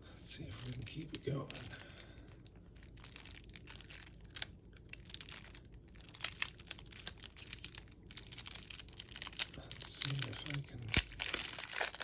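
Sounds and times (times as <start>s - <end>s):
foil wrapper crinkling and tearing: 0.5s - 12.0s.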